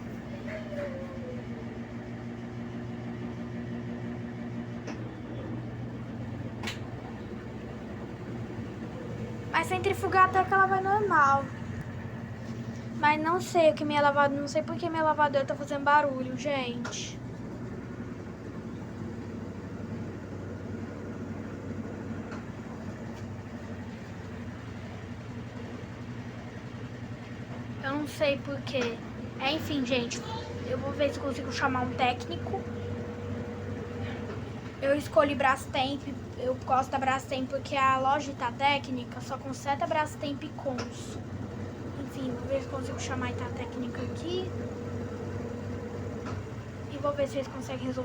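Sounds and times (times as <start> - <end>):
washing machine humming: 0.0 - 48.0.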